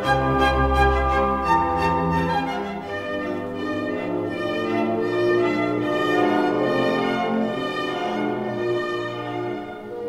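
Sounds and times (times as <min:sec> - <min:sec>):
orchestral strings slow melody: 0:00.0 - 0:10.0.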